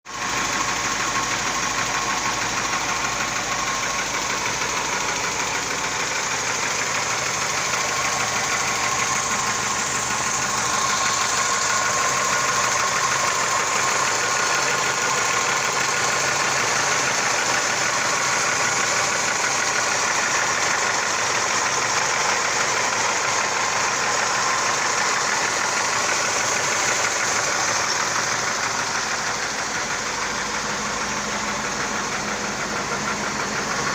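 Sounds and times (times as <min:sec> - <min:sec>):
car engine idling: 0:00.0 - 0:33.9
rapid engine knock: 0:00.1 - 0:33.9.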